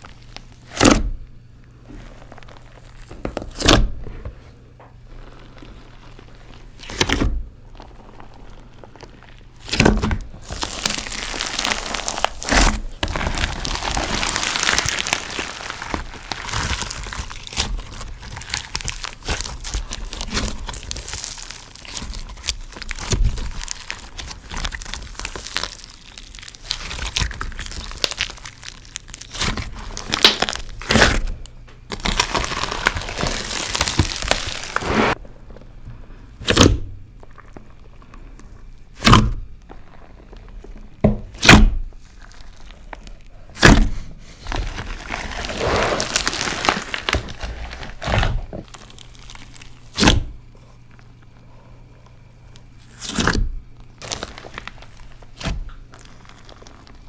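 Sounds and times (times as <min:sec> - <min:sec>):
crinkling and crackling: 0:00.0 - 0:57.0.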